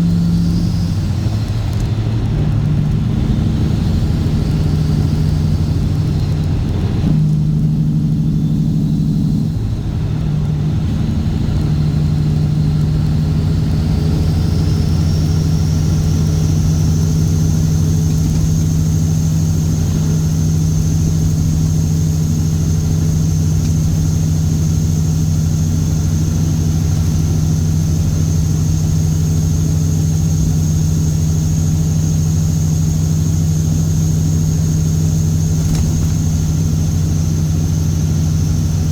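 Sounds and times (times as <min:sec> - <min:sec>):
diesel truck engine running: 0:00.0 - 0:38.9
faint high whine: 0:00.0 - 0:38.9.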